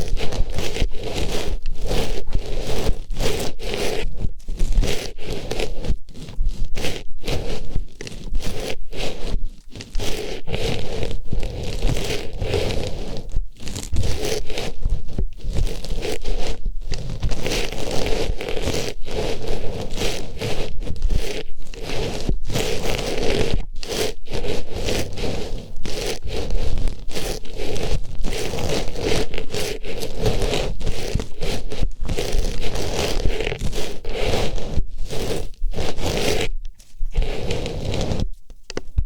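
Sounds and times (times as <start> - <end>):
rustling on microphone: 0.0 - 39.0.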